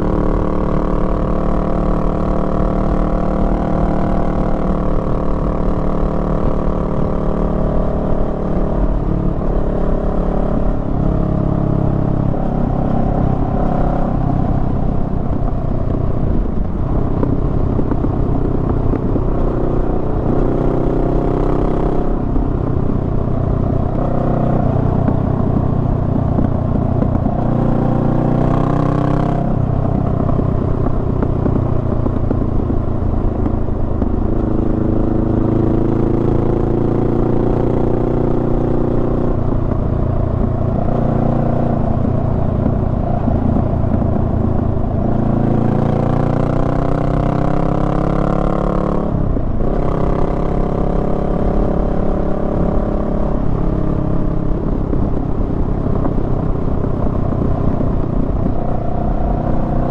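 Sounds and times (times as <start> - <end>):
motorcycle engine riding: 0.0 - 59.9.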